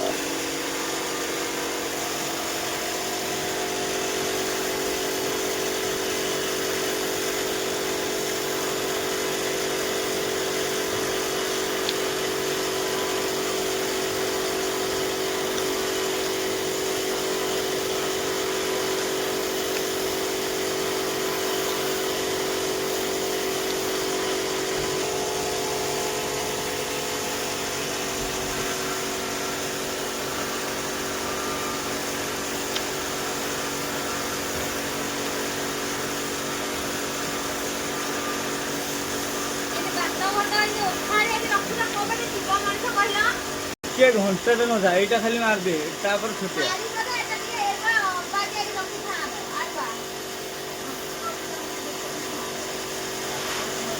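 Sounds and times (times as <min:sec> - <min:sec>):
power tool motor humming: 0:00.0 - 0:53.9.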